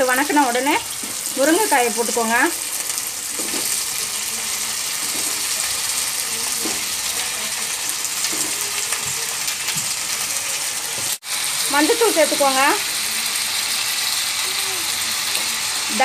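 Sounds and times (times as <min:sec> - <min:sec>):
food sizzling in hot oil: 0:00.0 - 0:16.0
oil crackling: 0:00.0 - 0:16.0.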